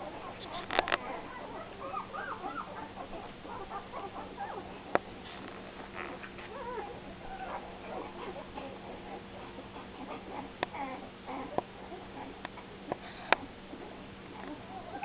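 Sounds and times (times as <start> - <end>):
puppies whimpering and squeaking: 0.0 - 15.0
steady low hum: 0.0 - 15.0.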